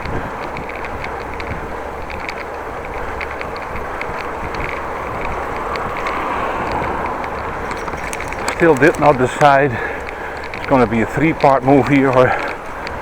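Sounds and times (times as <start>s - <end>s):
wind on microphone: 0.0s - 10.8s
bicycle tyres on road: 0.0s - 13.0s
small ticks: 0.0s - 13.0s.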